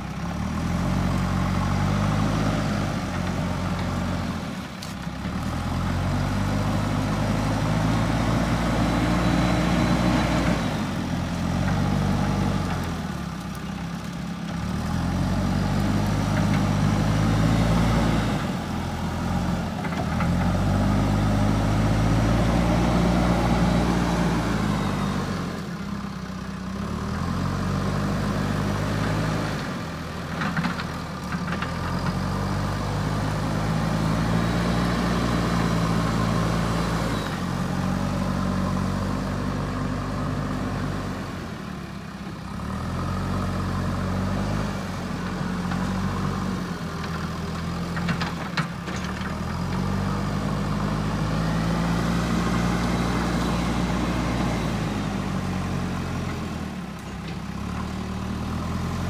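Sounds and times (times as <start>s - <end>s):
backhoe diesel engine revving: 0.0s - 59.0s.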